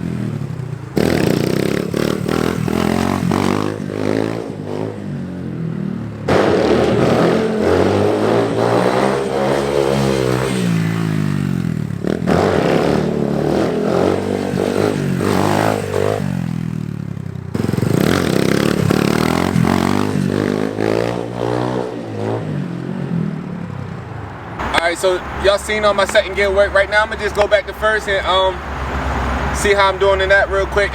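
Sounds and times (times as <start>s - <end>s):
dirt bike engine revving: 0.0s - 23.1s, 24.6s - 30.9s.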